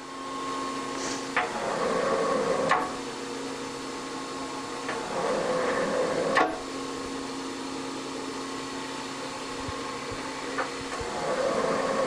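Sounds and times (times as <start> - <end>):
metal shaper motor hum: 0.0 - 12.0.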